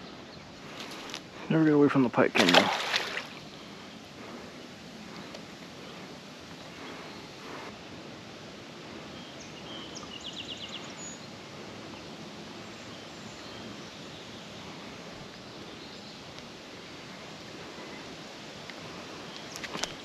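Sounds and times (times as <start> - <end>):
outdoor background rush: 0.0 - 20.0.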